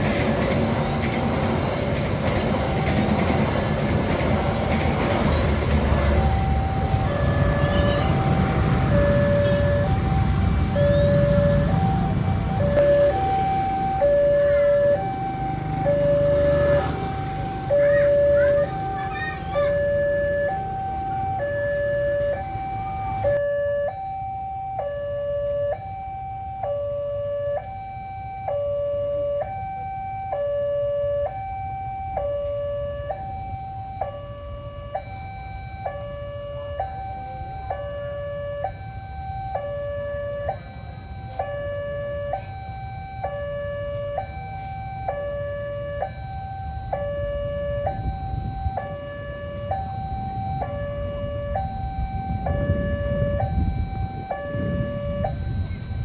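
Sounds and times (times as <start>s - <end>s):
level crossing two-tone alarm: 0.0s - 56.0s.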